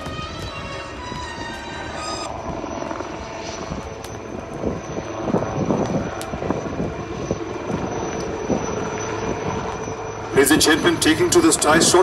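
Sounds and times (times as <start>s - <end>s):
helicopter rotor beating: 0.0s - 12.0s
high turbine whine: 0.0s - 12.0s.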